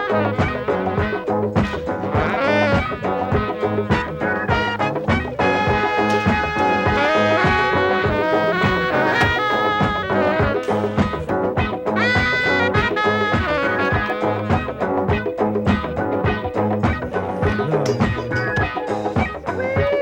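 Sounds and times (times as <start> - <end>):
swing brass band music: 0.0 - 20.0.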